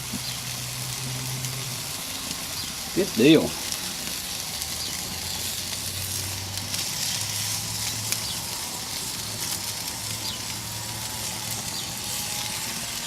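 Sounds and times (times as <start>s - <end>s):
apples sizzling on a grill: 0.0s - 13.0s.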